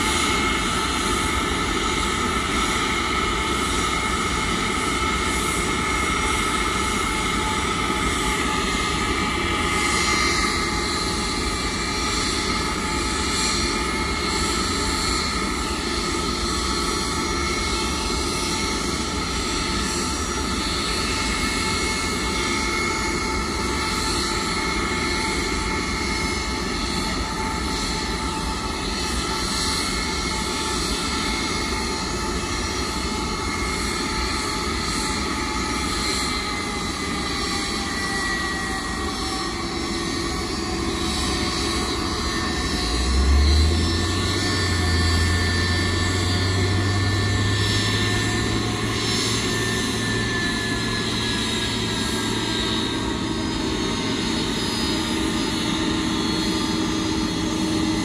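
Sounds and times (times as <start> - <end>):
jet engines idling: 0.0 - 58.0.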